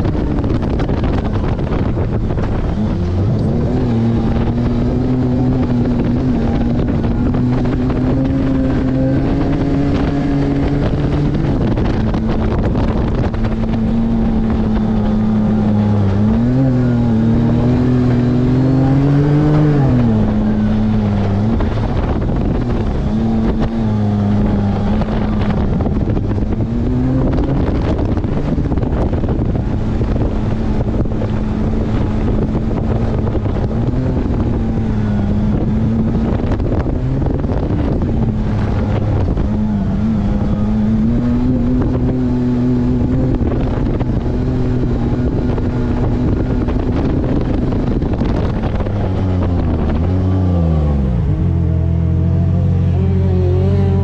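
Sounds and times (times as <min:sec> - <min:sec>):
utility vehicle engine droning: 0:00.0 - 0:54.0.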